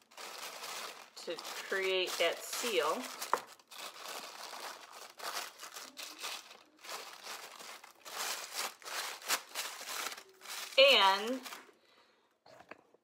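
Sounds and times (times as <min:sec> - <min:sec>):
cling wrap crinkling: 0:00.0 - 0:11.8.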